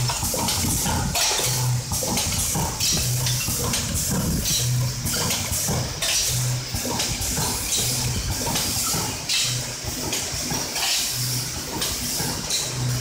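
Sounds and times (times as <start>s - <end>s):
machine clicks: 0.0s - 13.0s
machine low hum: 0.0s - 13.0s.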